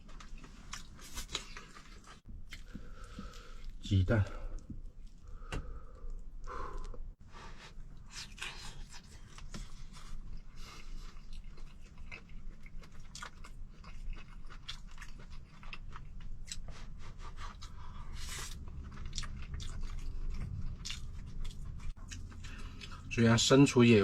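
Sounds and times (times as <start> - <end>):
chewing and crunching: 0.0 - 7.0, 7.9 - 24.0
low steady hum: 0.0 - 24.0.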